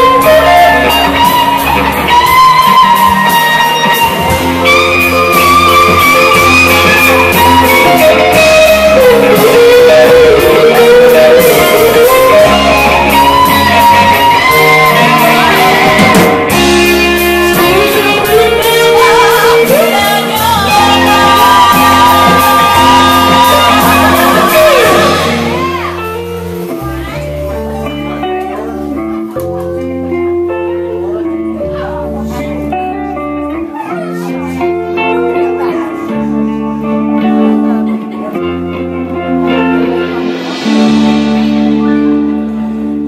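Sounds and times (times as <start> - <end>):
electric guitar lead lines: 0.0 - 43.0
live band playing blues-rock: 0.0 - 43.0.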